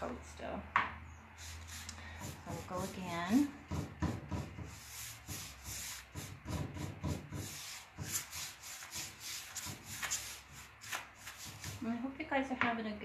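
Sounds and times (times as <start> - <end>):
scratchy paintbrush strokes on wood: 1.4 - 12.0.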